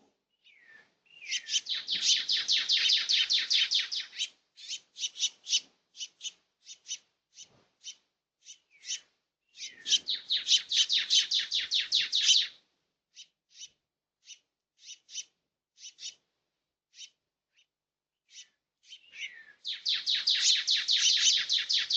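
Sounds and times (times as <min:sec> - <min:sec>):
small birds chirping: 0:00.3 - 0:16.3, 0:16.9 - 0:21.9.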